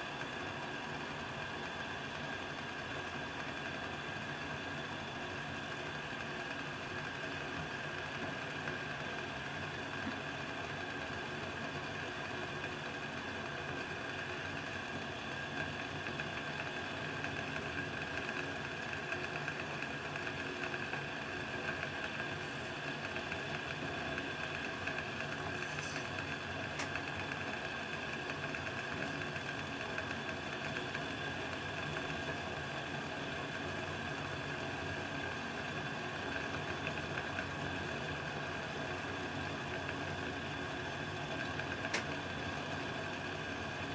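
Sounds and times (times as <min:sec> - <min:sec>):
stove burning with rumbling hiss: 0:00.0 - 0:43.9.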